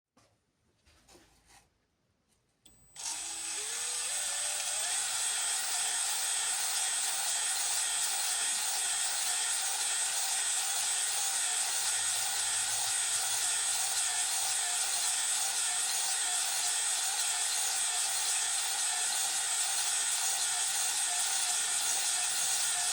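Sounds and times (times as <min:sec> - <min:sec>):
power drill grinding: 0:03.0 - 0:22.9.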